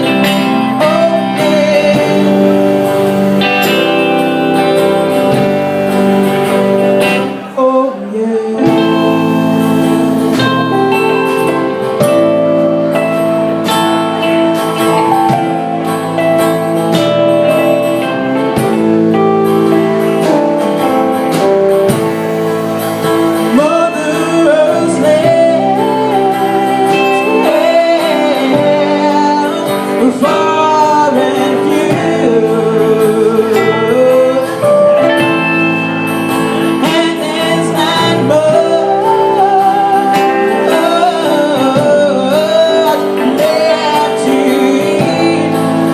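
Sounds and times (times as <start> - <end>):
guitar chords ringing: 0.0 - 45.9.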